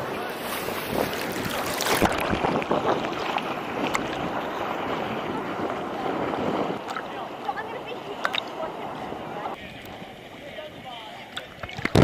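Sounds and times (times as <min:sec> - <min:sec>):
sea water sloshing: 0:00.0 - 0:12.0
wind buffeting microphone: 0:00.0 - 0:12.0
small splashes: 0:00.3 - 0:10.0, 0:11.2 - 0:12.0.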